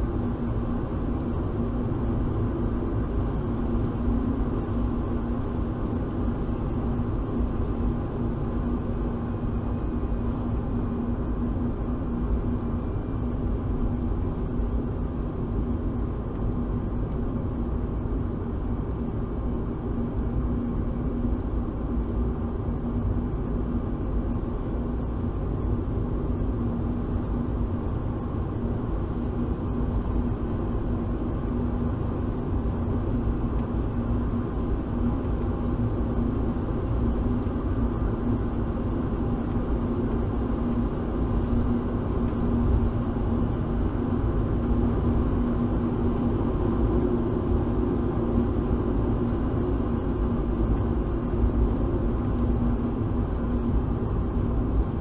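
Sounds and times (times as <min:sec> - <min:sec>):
car engine and road rumble: 0:00.0 - 0:55.0
constant hum: 0:00.0 - 0:55.0.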